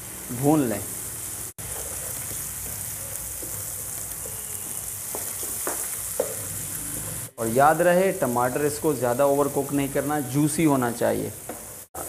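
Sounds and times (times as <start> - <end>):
eggs sizzling in a frying pan: 0.0 - 12.0.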